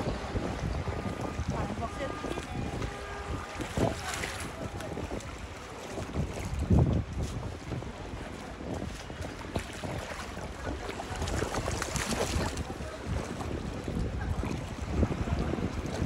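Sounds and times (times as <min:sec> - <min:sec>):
floodwater lapping: 0:00.0 - 0:16.0
wind buffeting microphone: 0:00.0 - 0:16.0.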